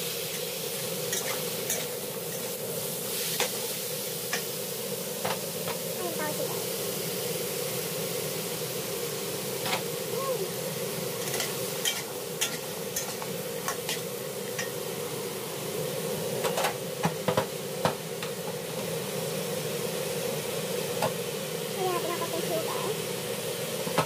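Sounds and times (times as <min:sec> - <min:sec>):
pumpkin sizzling in a wok: 0:00.0 - 0:24.0.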